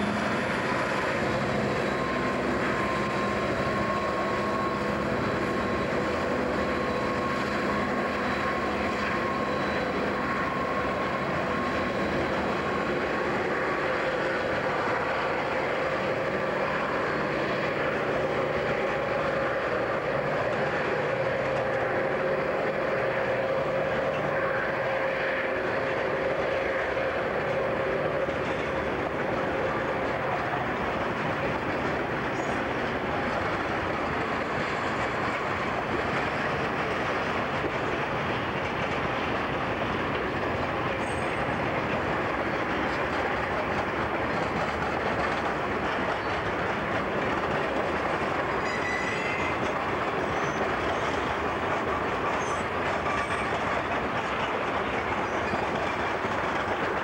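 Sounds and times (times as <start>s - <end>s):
diesel locomotive drone: 0.0s - 57.0s.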